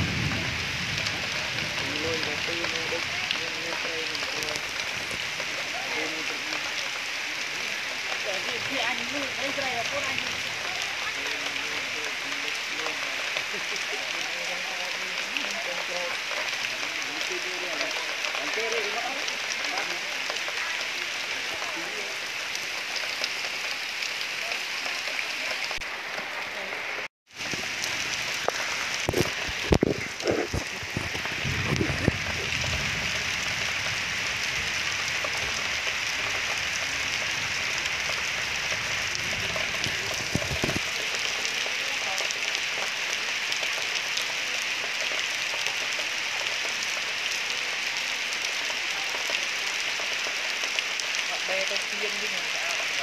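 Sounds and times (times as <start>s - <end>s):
steady outdoor hiss: 0.0s - 53.0s.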